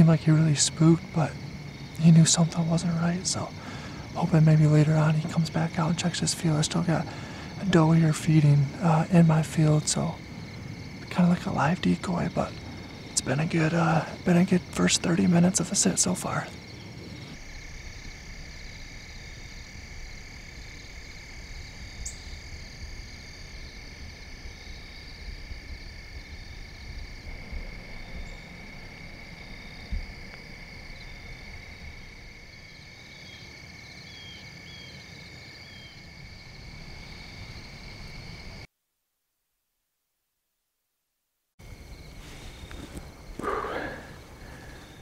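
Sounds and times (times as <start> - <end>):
crickets and insects trilling: 0.0 - 38.7, 41.6 - 45.0.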